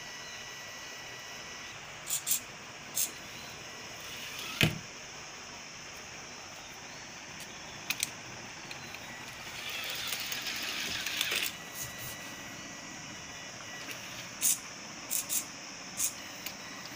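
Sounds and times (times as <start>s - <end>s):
small gear motors whirring: 0.0s - 16.9s.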